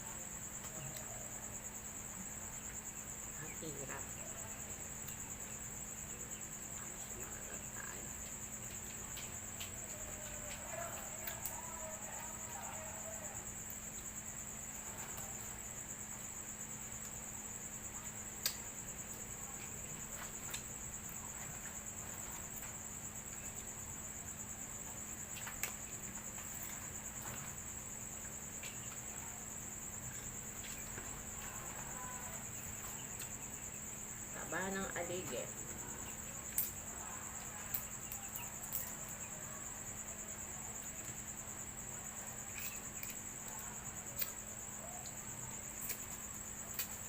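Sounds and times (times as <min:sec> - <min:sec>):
crickets chirring: 0:00.0 - 0:47.0.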